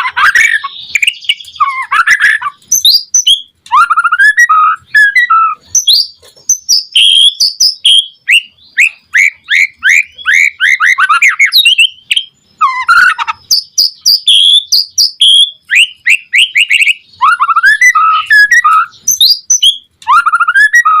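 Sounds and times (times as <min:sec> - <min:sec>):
bird singing whistled notes: 0:00.0 - 0:21.0.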